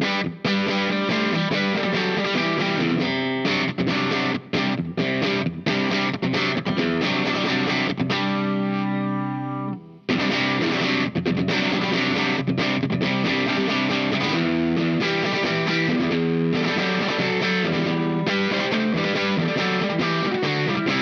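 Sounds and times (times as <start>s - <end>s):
distorted electric guitar: 0.0s - 21.0s.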